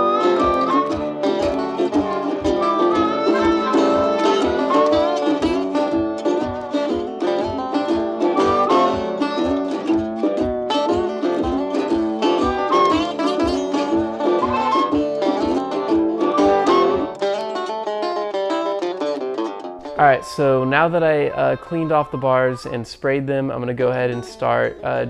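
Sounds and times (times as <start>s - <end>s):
string band music: 0.0s - 18.8s, 19.8s - 25.0s.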